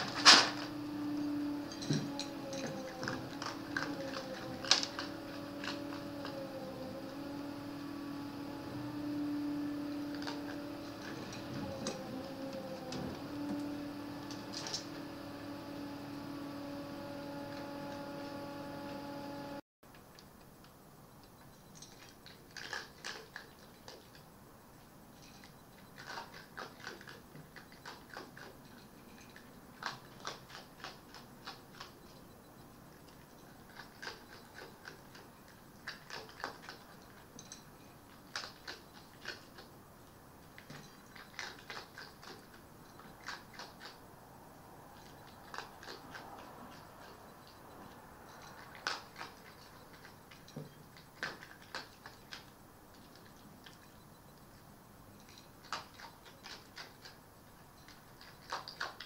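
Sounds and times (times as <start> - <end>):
fox crunching food: 0.0 - 18.1, 21.8 - 24.3, 25.4 - 59.0.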